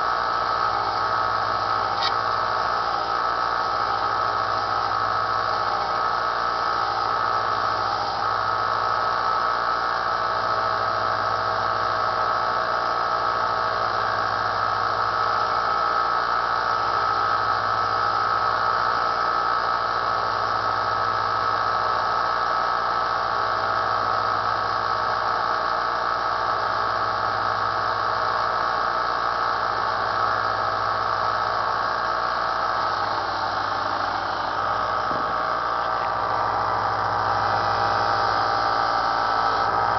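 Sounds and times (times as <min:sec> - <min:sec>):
belt sander running: 0:00.0 - 0:39.9.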